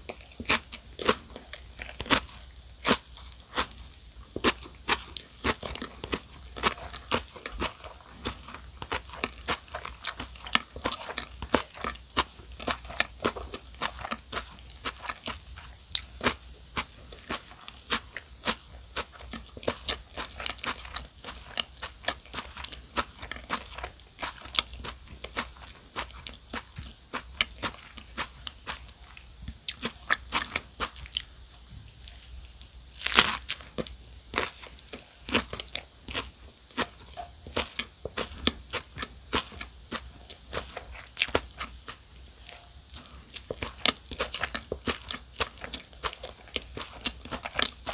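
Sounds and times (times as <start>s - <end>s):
chewing sandwich crunches: 0.0s - 31.4s, 32.9s - 47.9s.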